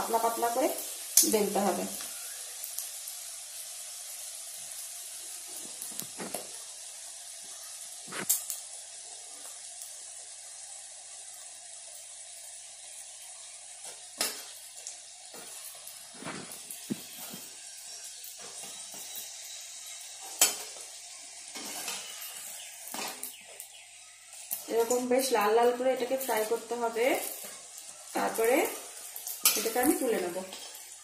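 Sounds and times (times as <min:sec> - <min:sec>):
oil sizzling in a pan: 0:00.0 - 0:31.0.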